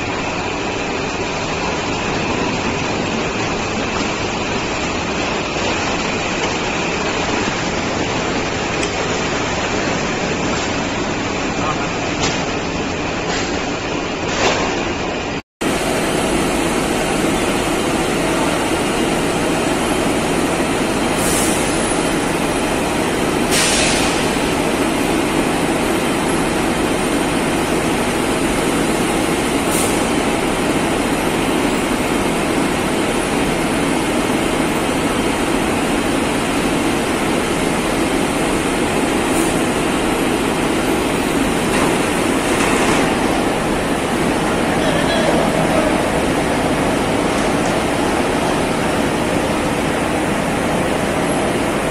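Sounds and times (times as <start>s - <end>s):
conveyor machinery rumble and hum: 0.0s - 51.9s.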